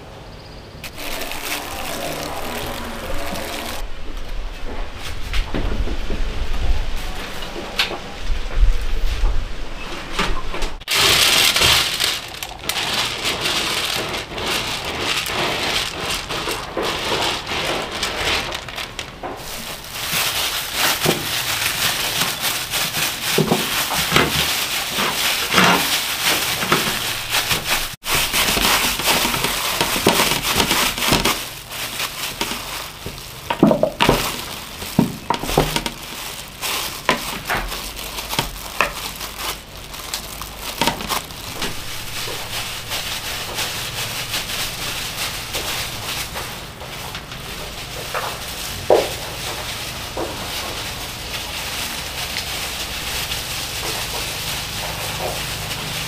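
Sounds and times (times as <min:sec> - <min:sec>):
plastic gloves crinkling: 0:00.8 - 0:03.9, 0:10.8 - 0:56.0.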